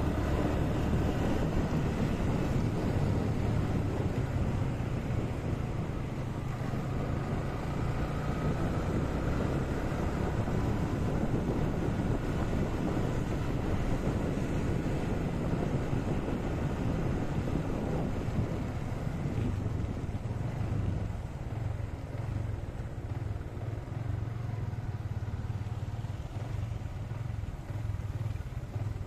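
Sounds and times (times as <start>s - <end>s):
wind noise on microphone: 0.0s - 23.4s
motorcycle engine hum: 0.0s - 29.0s.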